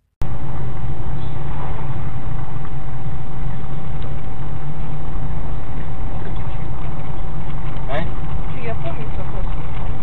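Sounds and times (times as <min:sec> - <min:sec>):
vehicle engine and road noise: 0:00.0 - 0:10.0
faint constant whine: 0:00.2 - 0:10.0.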